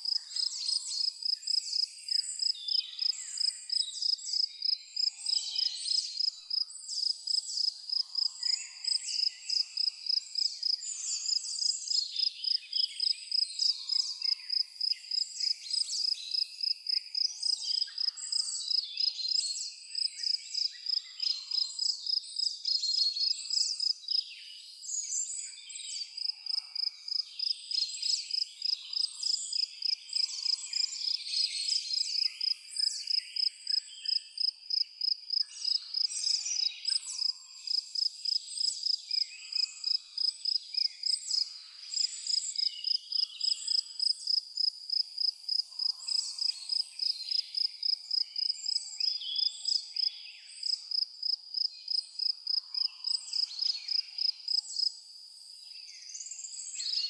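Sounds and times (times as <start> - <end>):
cricket chirping: 0.0 - 19.4, 20.0 - 24.3, 26.2 - 57.0
songbirds singing: 0.0 - 57.0.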